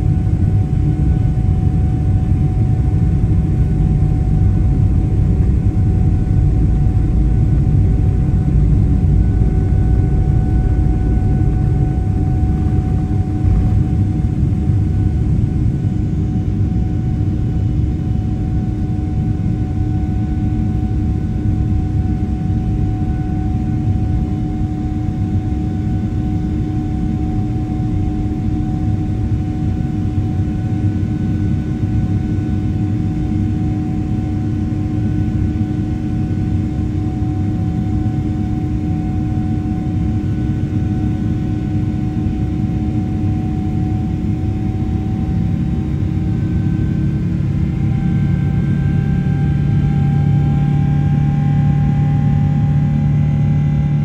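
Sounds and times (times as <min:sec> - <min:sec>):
jet engines at takeoff thrust: 0:00.0 - 0:54.0.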